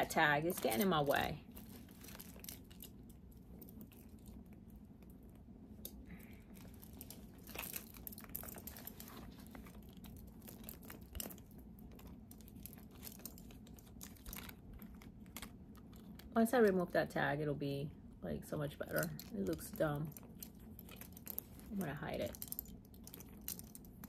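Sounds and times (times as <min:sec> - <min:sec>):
bag rustling: 0:00.0 - 0:04.5, 0:06.2 - 0:16.2, 0:18.9 - 0:24.0.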